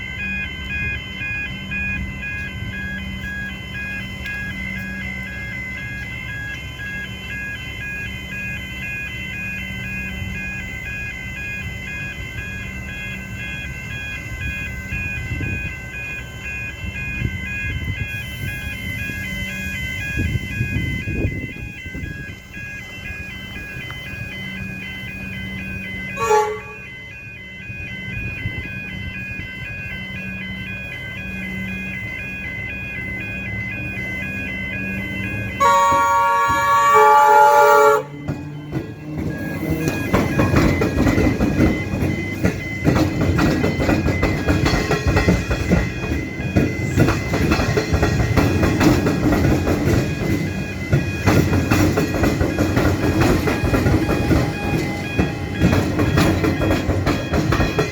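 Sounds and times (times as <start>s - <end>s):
level crossing bells ringing: 0.0s - 57.9s
rail traffic rumble: 0.0s - 57.9s.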